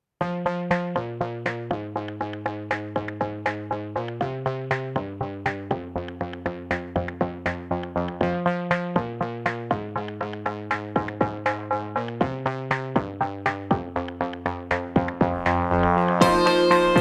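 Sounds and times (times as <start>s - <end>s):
electronic music with synth notes: 0.2s - 17.0s.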